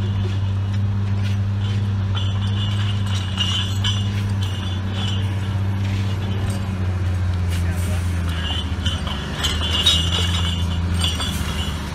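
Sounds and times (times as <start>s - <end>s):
engine running under load: 0.0s - 11.9s
metallic squealing and clinking: 1.4s - 11.9s.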